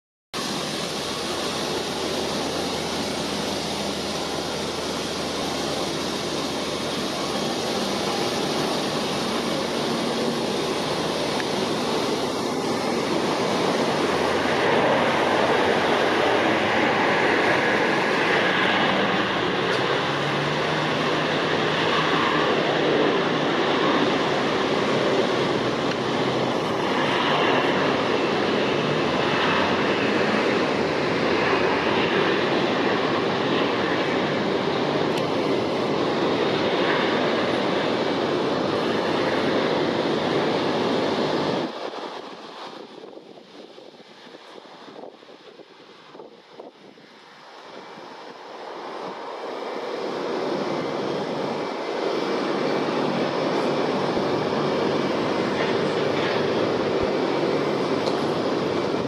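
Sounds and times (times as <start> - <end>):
jet engines roaring on landing: 0.4 - 59.0.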